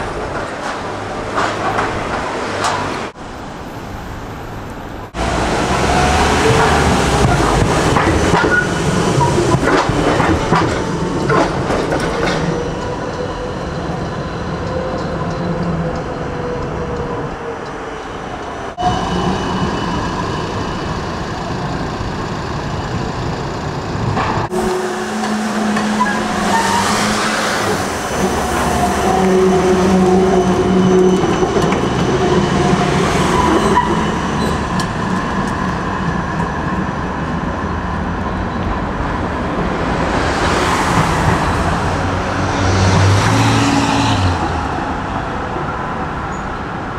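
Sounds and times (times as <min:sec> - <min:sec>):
tram wheels humming on rails: 0:00.0 - 0:46.9.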